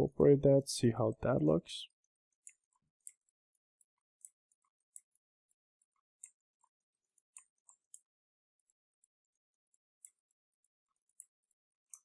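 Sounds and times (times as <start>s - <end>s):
computer mouse clicks: 2.3s - 12.0s.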